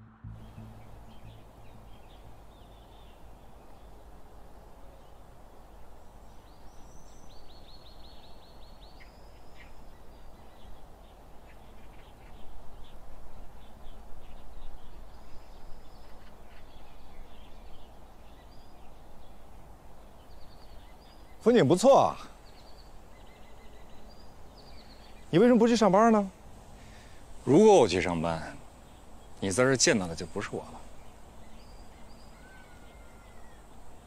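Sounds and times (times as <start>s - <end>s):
steady background hiss: 0.0s - 34.0s
small birds chirping and trilling: 0.3s - 34.0s.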